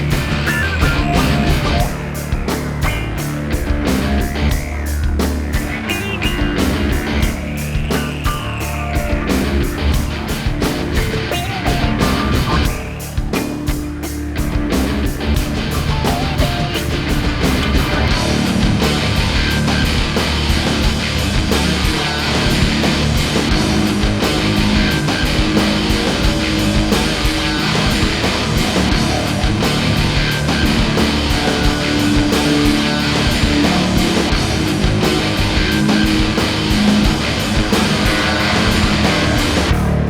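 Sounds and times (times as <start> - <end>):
hard rock music: 0.0 - 40.0.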